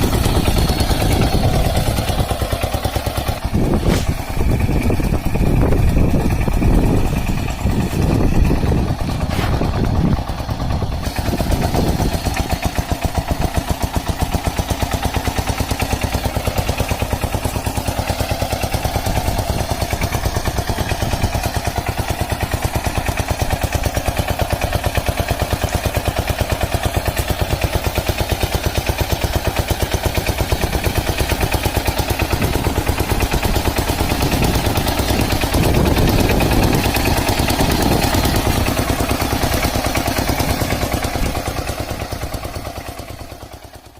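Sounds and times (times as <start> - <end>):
diesel engine chugging: 0.0 - 43.9.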